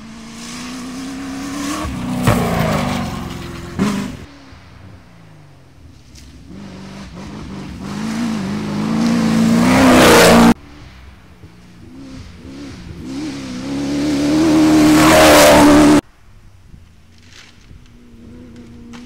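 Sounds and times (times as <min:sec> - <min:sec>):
rally car engines passing: 0:00.0 - 0:16.0.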